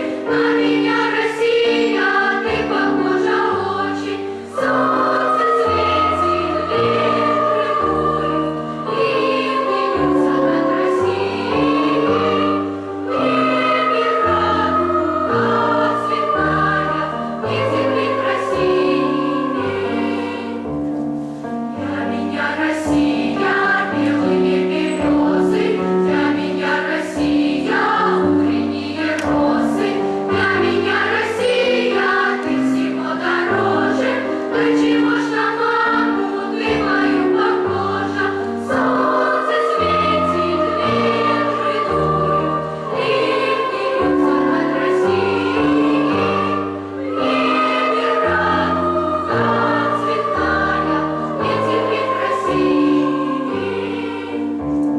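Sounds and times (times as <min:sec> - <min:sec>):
choir singing: 0:00.0 - 0:54.9.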